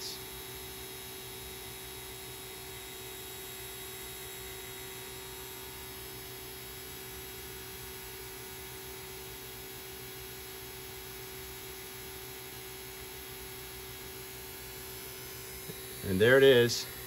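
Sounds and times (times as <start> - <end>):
vacuum pump humming: 0.0 - 17.0.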